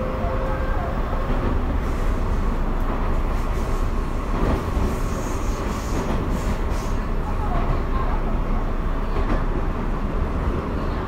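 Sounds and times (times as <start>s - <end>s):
stationary train low rumble: 0.0s - 11.0s.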